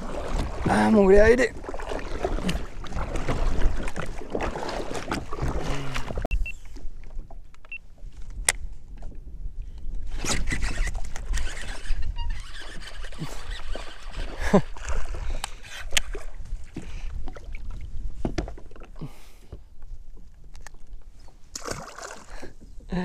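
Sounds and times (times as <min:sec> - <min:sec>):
wind rumbling on microphone: 0:00.0 - 0:18.7.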